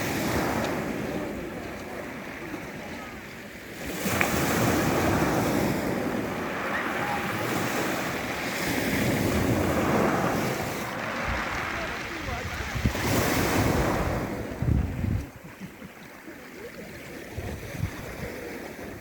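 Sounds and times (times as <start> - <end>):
sea surf breaking on shore: 0.0 - 19.0.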